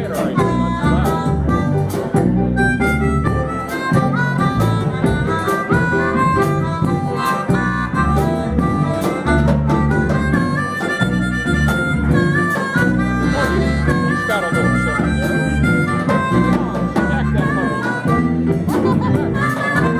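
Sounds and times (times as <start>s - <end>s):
bass line: 0.0s - 19.9s
guitar: 0.0s - 19.9s
harmonica melody: 0.0s - 19.9s
steady beat: 0.0s - 19.9s.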